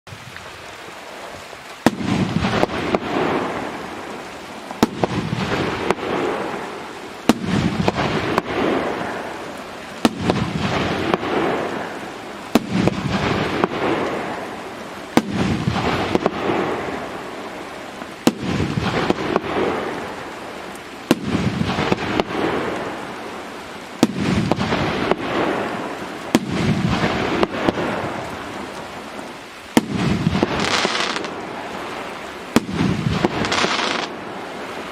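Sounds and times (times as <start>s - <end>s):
firework shots with fizzle: 1.8s - 29.1s, 29.7s - 34.4s.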